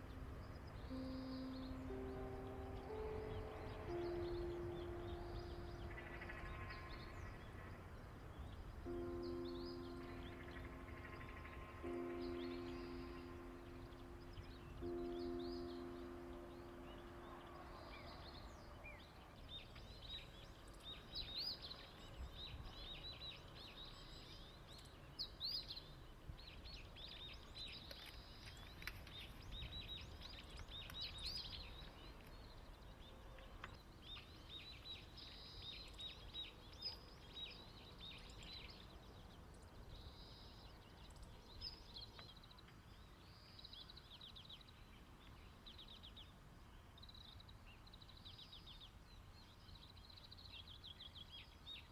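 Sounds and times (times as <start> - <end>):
faint low outdoor rumble: 0.0 - 51.9
small birds chirping: 0.0 - 51.9.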